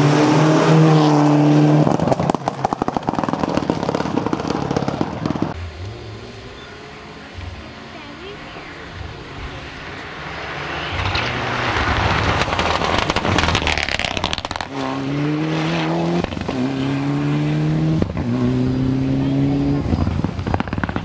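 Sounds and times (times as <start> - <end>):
rally car engine at full throttle: 0.0 - 21.0
engine crackling: 1.3 - 21.0.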